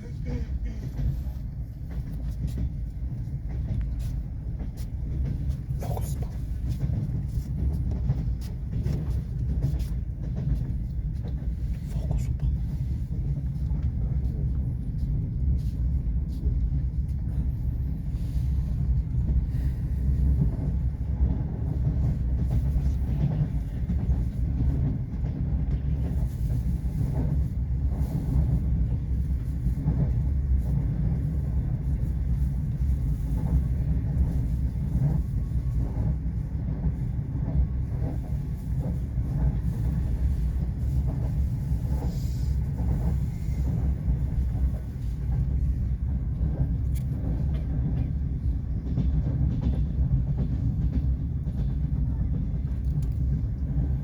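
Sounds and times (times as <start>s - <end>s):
train rumbling from inside carriage: 0.0s - 54.0s.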